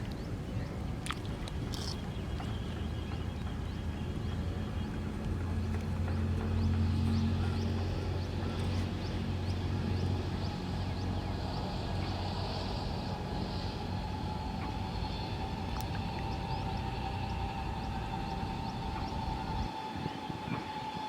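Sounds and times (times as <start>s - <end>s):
low engine-like hum: 0.0s - 21.0s
steady whine: 0.0s - 21.0s.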